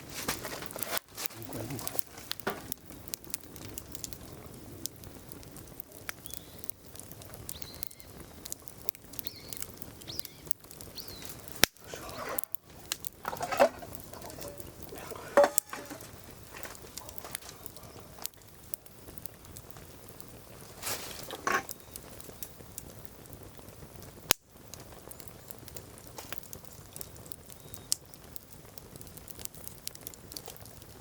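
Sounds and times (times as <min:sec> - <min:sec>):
fire pops: 0:00.0 - 0:31.0
wood fire crackling: 0:00.0 - 0:31.0.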